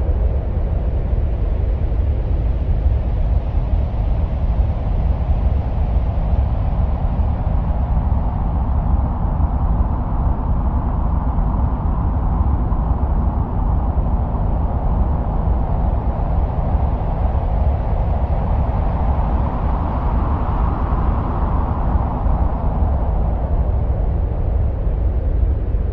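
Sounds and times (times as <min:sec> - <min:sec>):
deep wind-like noise: 0:00.0 - 0:25.9.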